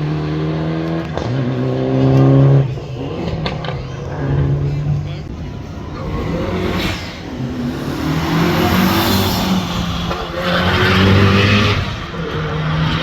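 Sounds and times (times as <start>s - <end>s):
rally car engine revving past: 0.0s - 13.0s
tyre noise on road: 0.0s - 13.0s.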